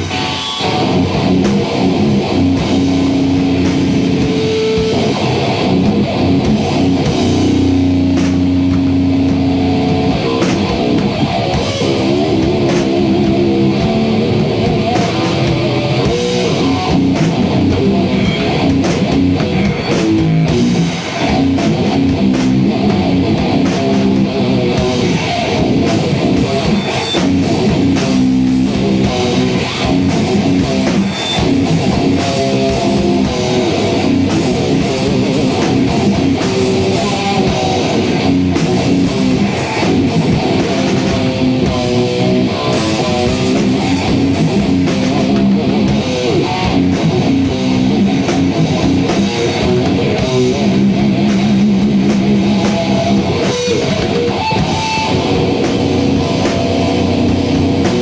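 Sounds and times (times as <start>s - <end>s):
drums: 0.0s - 58.0s
electric guitar: 0.0s - 58.0s.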